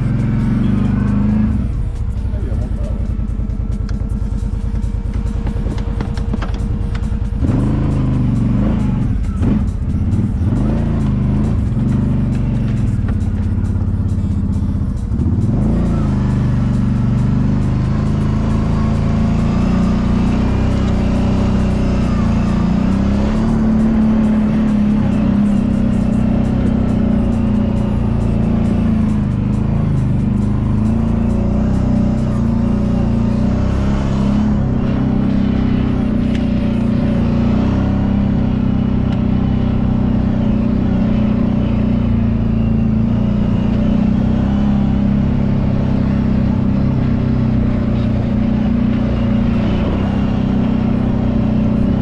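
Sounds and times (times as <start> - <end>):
atv engine revving: 0.0 - 52.0
background music: 0.0 - 52.0.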